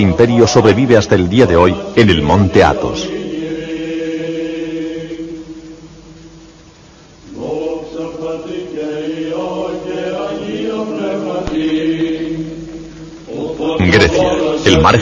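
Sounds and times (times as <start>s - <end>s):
men chanting a slow melody: 0.0s - 6.4s, 7.2s - 15.0s.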